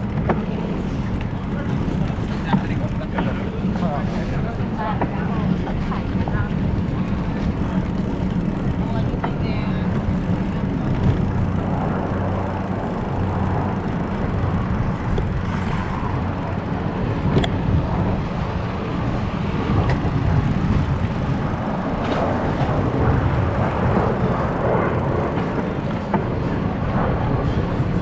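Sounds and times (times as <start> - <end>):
bicycle ride noise: 0.0 - 28.0
road traffic: 0.0 - 28.0.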